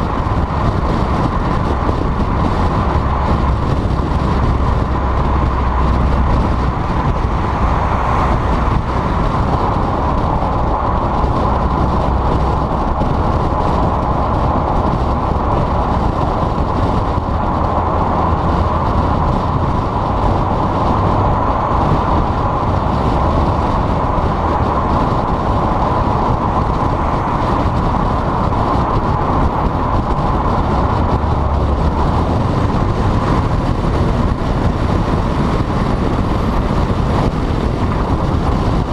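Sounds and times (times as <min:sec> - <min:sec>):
low engine and exhaust drone: 0:00.0 - 0:38.9
road and wind noise: 0:00.0 - 0:38.9.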